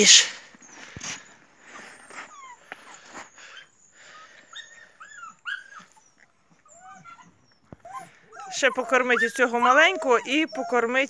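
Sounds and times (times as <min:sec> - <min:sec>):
dogs whimpering and yipping: 0:00.5 - 0:11.0.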